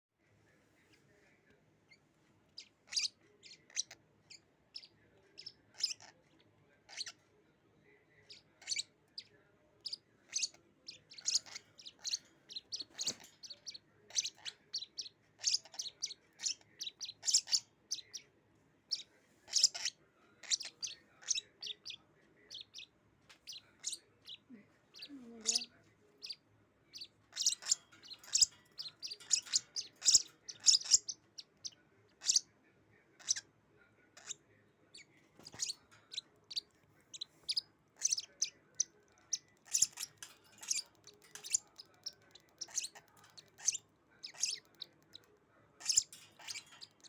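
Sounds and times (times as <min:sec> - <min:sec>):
lovebirds chirping: 0:01.9 - 0:07.2, 0:08.2 - 0:18.3, 0:18.9 - 0:32.5, 0:33.1 - 0:33.5, 0:34.2 - 0:47.0.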